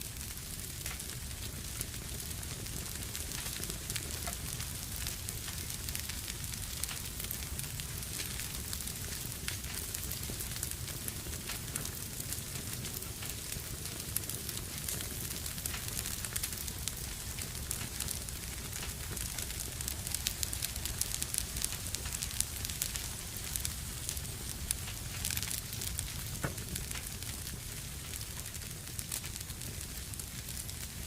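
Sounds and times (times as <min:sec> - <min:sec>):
fire crackling in fireplace: 0:00.0 - 0:31.0.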